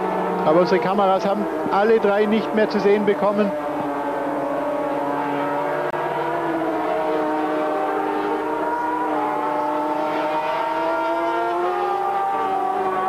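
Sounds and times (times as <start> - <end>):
two-stroke engines whining: 0.0 - 13.0.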